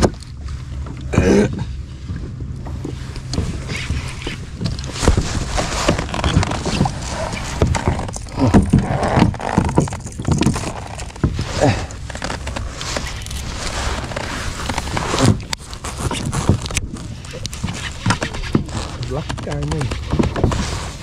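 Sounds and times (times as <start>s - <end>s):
knocks and rattles on kayak: 0.0s - 21.0s
low steady hum: 0.0s - 21.0s
water splashing: 0.0s - 21.0s.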